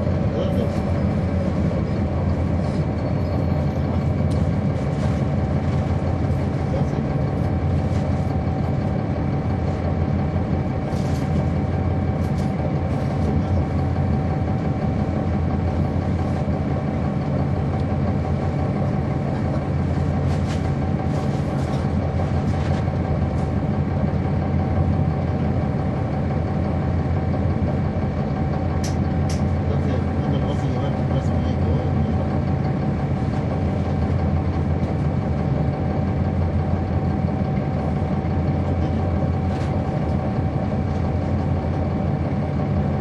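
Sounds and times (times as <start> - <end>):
bus diesel engine running: 0.0 - 43.0.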